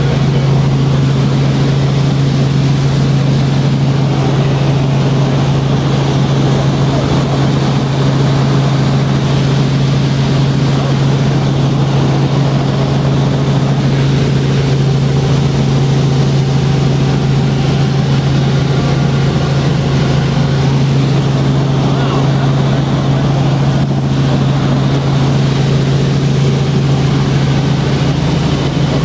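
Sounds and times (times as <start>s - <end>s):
helicopter engine and rotor drone: 0.0s - 29.0s.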